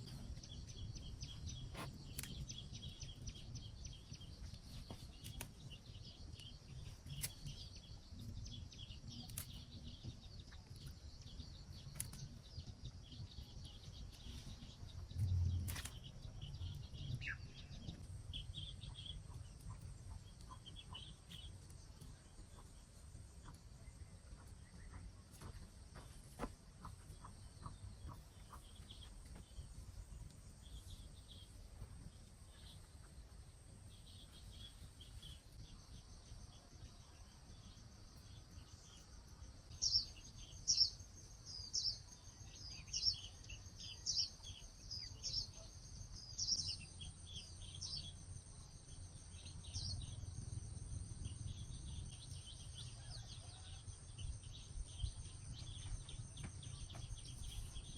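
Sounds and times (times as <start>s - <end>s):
songbird chirping: 0.0s - 57.9s.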